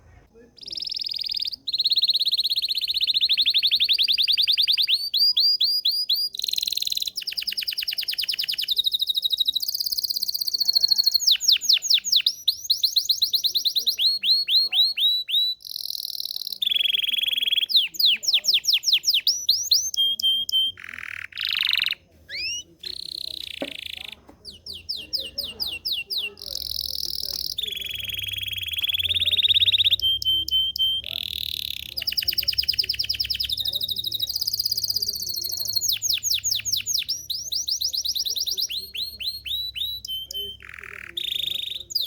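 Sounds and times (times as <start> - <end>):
canary singing trills: 0.3 - 42.0.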